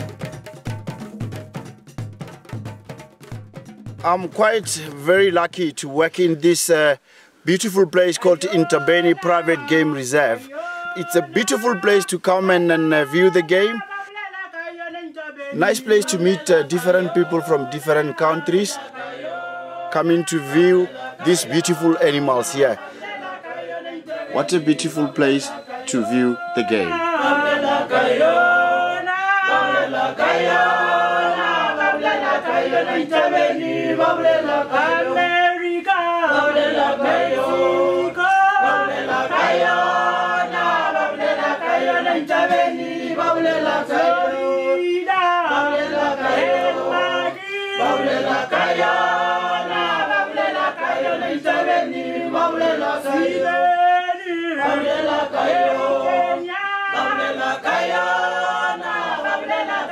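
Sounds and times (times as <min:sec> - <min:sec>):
group singing a cappella: 0:08.2 - 0:59.9.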